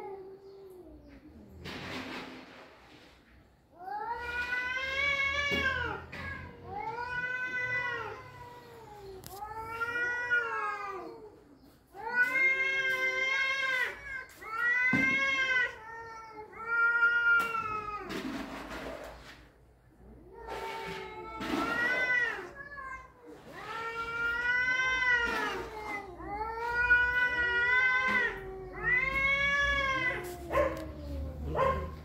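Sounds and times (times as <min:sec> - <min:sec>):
cats yowling: 0:03.8 - 0:18.3, 0:19.9 - 0:32.0.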